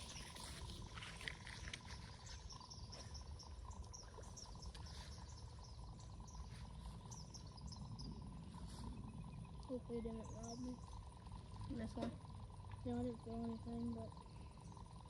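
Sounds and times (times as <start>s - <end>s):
insects and birds chirping: 0.0s - 15.0s
thin steady hum: 0.0s - 15.0s.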